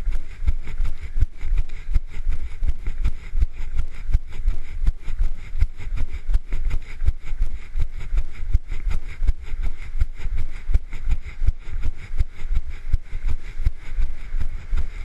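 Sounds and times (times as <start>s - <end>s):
running footsteps: 0.0s - 15.0s
steady rush of noise: 0.0s - 15.0s.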